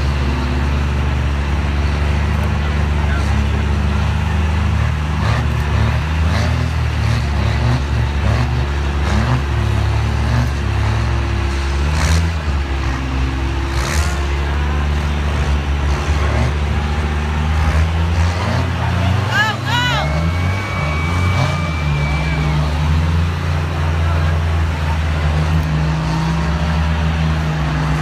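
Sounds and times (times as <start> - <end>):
diesel pickup engine under load: 0.0 - 28.0.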